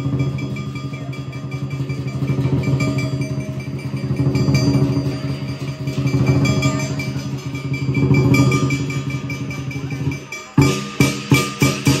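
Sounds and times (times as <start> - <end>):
cymbal crashes: 0.0 - 12.0
drum roll: 0.0 - 12.0.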